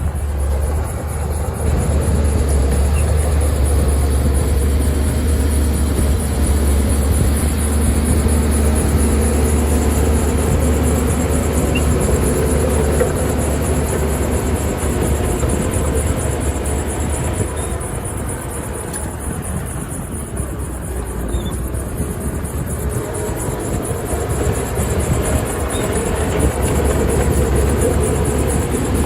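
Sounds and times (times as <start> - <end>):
diesel machinery engine drone: 0.0 - 29.0.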